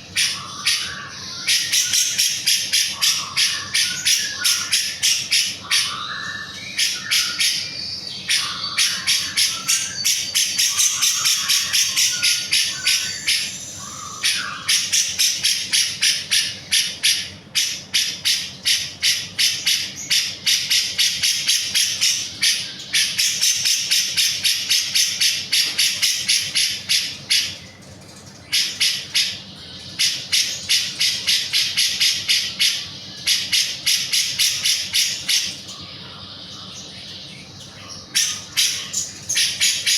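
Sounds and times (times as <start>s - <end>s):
bulbul singing: 0.0s - 39.9s
lower chattering bird call: 0.0s - 39.9s.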